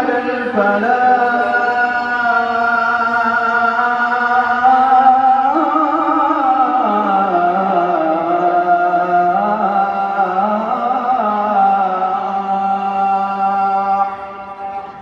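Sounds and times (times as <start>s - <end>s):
man chanting call to prayer: 0.0s - 15.0s.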